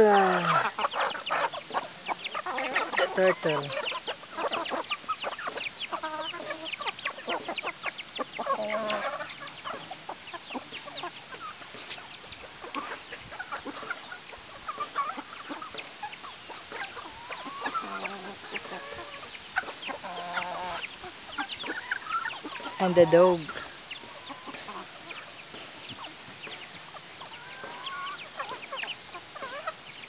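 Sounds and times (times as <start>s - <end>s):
chickens clucking: 0.0s - 30.0s
drawn-out hen calls: 0.0s - 30.0s.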